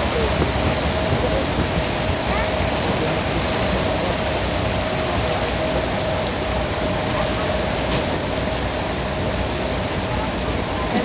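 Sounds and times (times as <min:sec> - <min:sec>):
boat engine humming: 0:00.0 - 0:11.0
water rushing along hull: 0:00.0 - 0:11.0.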